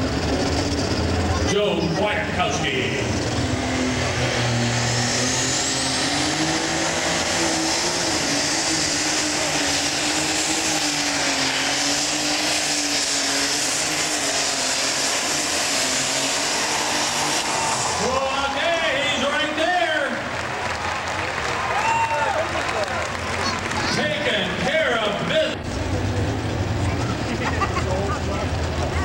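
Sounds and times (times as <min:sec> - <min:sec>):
diesel engine running flat out: 0:00.0 - 0:29.0
high turbo whine: 0:00.0 - 0:29.0.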